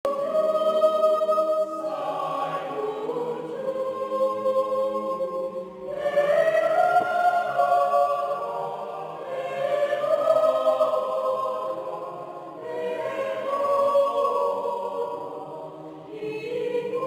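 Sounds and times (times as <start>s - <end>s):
mixed choir singing in harmony: 0.1s - 17.0s.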